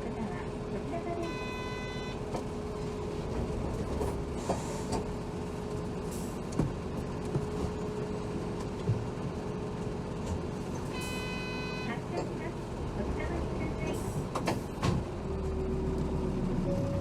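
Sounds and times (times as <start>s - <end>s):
diesel bus engine idling: 0.0s - 17.0s.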